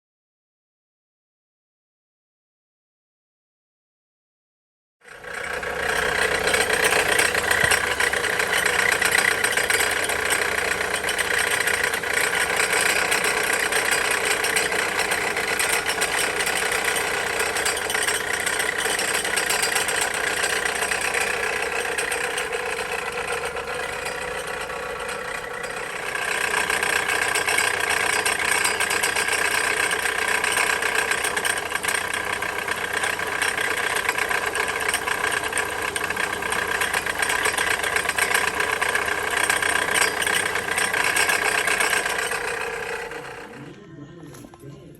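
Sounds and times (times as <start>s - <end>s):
car engine idling: 5.1s - 43.8s
alternator whining: 5.1s - 44.9s.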